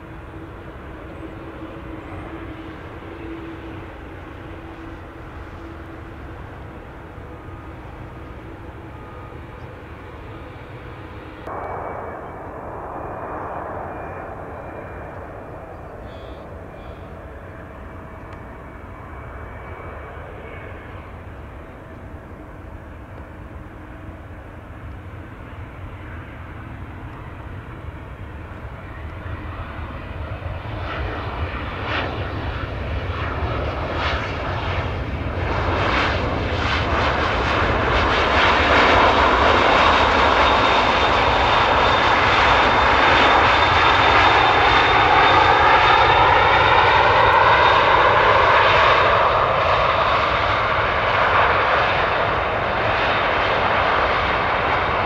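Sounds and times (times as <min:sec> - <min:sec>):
jet airliner taxiing: 0:00.0 - 0:55.0
regional jet landing and rolling: 0:00.0 - 0:55.0.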